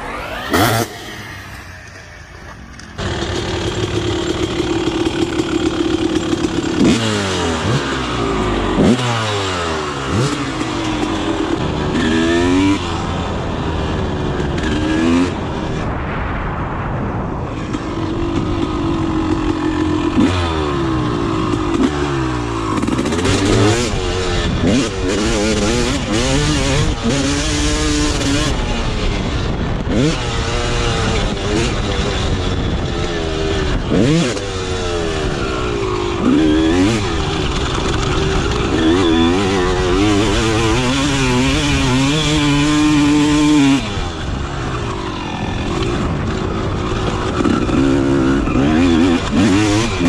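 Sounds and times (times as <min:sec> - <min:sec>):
two-stroke motorbike engine revving: 0:00.0 - 0:15.8, 0:17.6 - 0:50.0.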